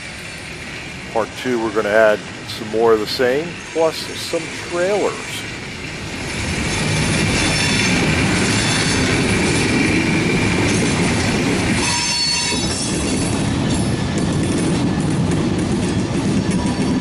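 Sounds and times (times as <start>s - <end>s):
wheel squeal: 0.0s - 14.6s
train wheels rumbling on rail: 0.0s - 17.0s.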